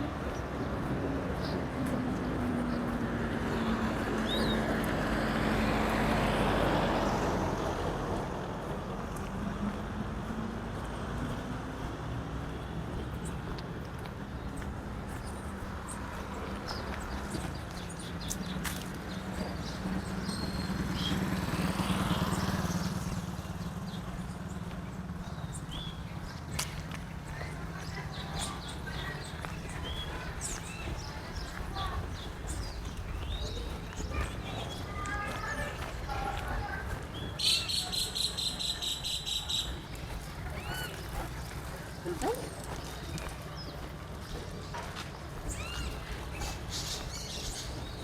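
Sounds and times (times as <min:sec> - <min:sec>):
vehicle engine passing: 0:00.0 - 0:48.0.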